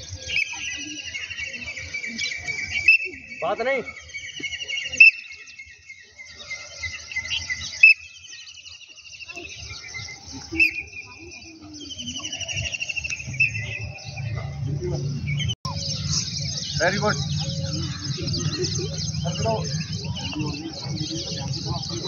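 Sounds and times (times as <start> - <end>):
faint voices: 0.0 - 5.3, 9.2 - 22.0
bird trilling: 0.0 - 14.6, 15.3 - 22.0
birds chirping: 0.0 - 22.0.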